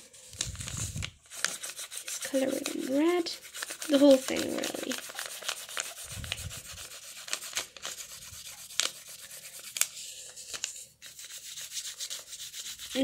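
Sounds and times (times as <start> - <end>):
pencil scribbling on paper: 0.0 - 13.0.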